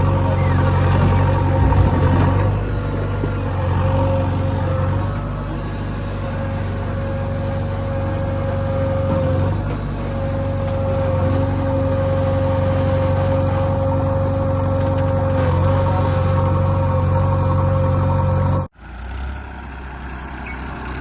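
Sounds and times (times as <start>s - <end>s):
diesel engine rumbling: 0.0s - 21.0s.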